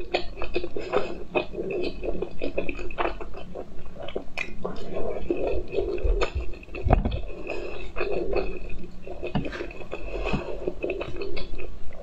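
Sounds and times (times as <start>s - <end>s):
wet squishy chewing: 0.0s - 12.0s.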